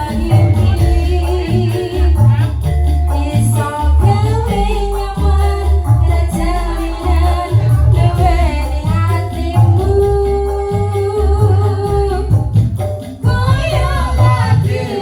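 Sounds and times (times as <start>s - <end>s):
person singing: 0.0s - 12.6s, 13.2s - 15.0s
pounding bass beat: 0.0s - 15.0s.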